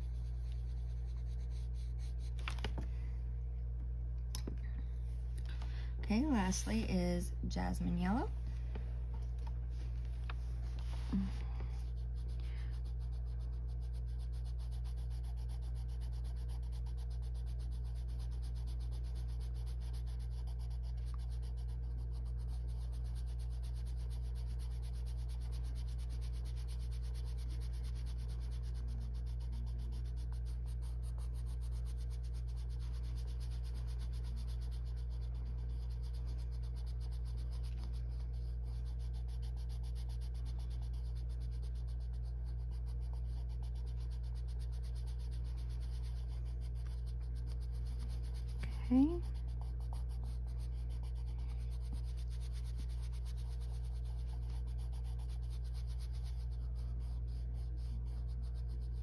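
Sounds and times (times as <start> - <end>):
pencil rubbing on paper: 0.0 - 2.7, 10.6 - 59.0
steady low hum: 0.0 - 59.0.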